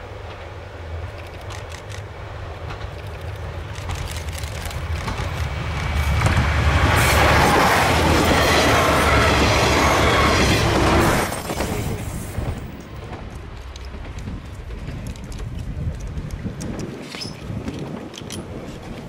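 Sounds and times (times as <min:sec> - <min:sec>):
train passing on rails: 0:00.0 - 0:19.0.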